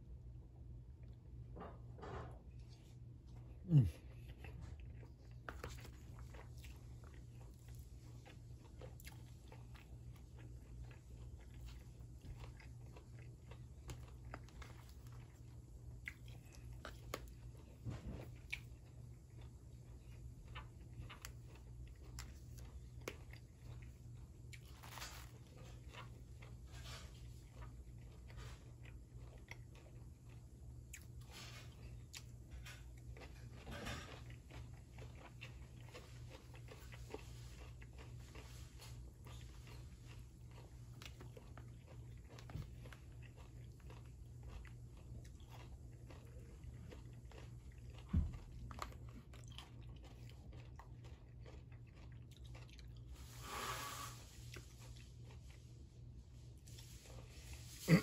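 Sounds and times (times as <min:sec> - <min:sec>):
close chewing: 0:02.6 - 0:53.3, 0:54.4 - 0:58.0.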